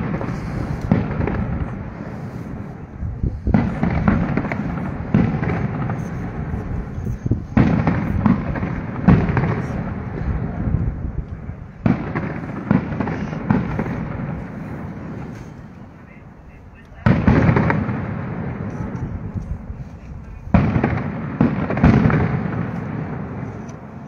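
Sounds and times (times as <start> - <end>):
fireworks bangs with rumbling tails: 0.0 - 24.0.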